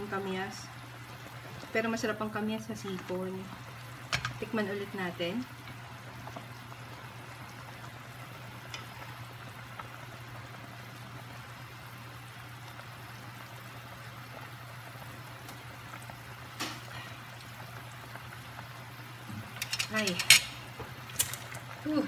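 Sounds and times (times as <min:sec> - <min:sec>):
soup bubbling: 0:00.0 - 0:22.0.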